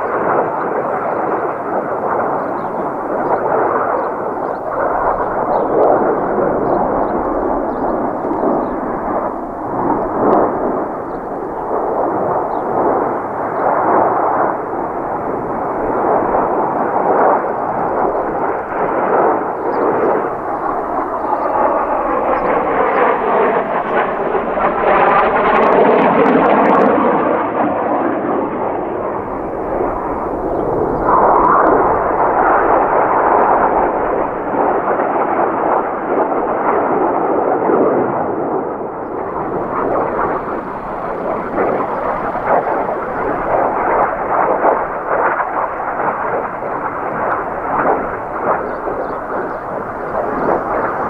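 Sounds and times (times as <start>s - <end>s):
falling jet whine: 0.0s - 37.0s, 38.6s - 51.0s
jets flying past: 0.0s - 51.0s.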